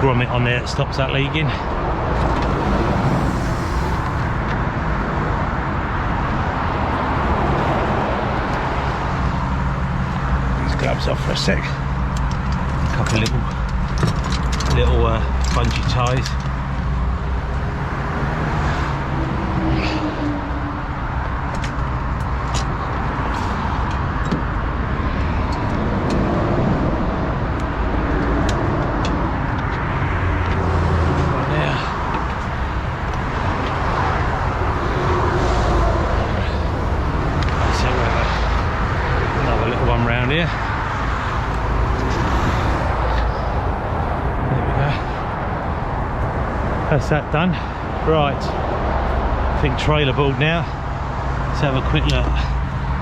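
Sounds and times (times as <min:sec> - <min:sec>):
low engine drone: 0:00.0 - 0:53.0
road traffic roar: 0:00.0 - 0:53.0.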